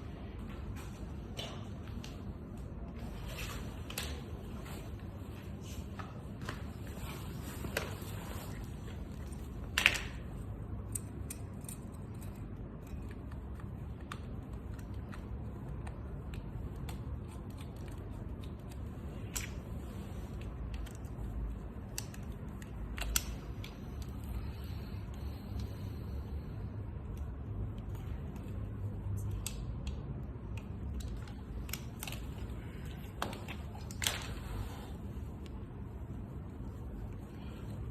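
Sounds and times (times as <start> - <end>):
steady low rumble: 0.0 - 37.9.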